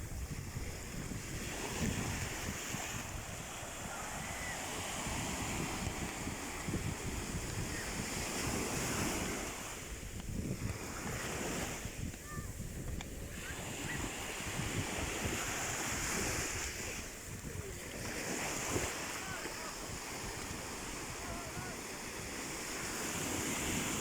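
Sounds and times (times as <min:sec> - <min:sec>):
sea waves washing onto shore: 0:00.0 - 0:24.0
wind rumbling on microphone: 0:00.0 - 0:24.0.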